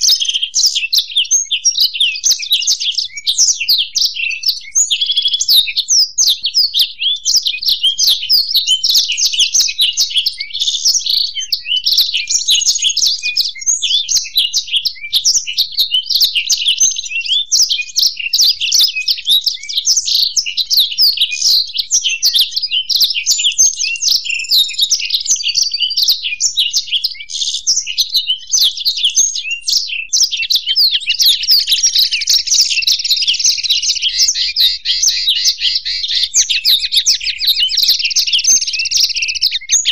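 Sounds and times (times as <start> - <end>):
birds twittering song: 0.0 - 39.9.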